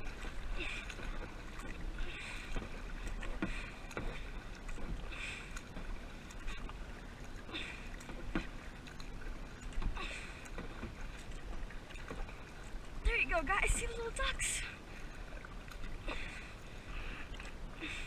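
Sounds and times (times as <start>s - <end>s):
paddle splashing in water: 0.0s - 18.0s.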